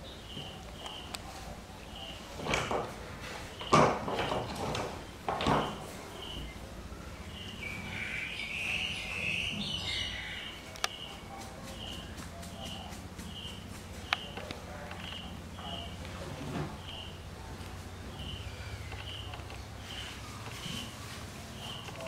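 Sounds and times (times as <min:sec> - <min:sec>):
rustles: 0:00.0 - 0:22.0.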